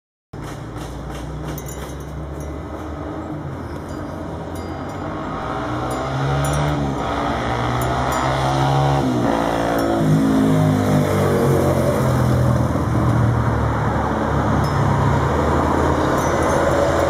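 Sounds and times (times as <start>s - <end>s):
motor vehicle engine running: 0.4s - 17.0s.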